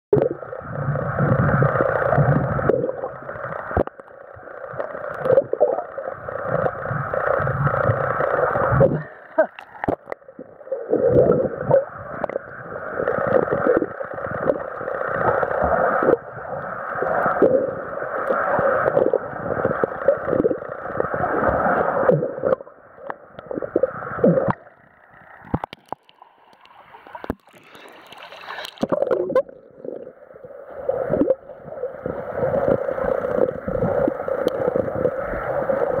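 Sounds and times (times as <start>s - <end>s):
underwater water sloshing: 1.2s - 36.0s.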